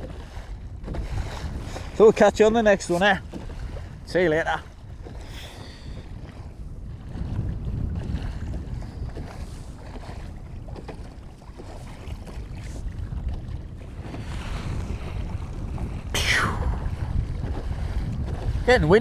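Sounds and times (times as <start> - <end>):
water splashing around kayak: 0.0 - 19.0
wind buffeting microphone: 0.0 - 19.0.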